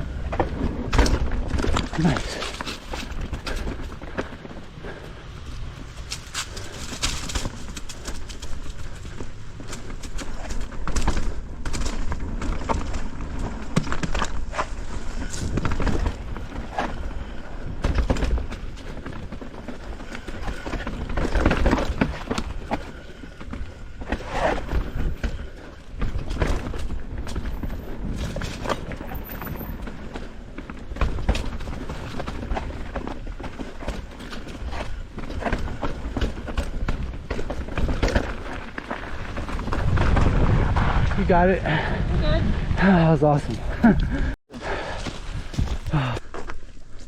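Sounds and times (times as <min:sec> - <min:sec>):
bike rattling over rocks: 0:00.0 - 0:42.3.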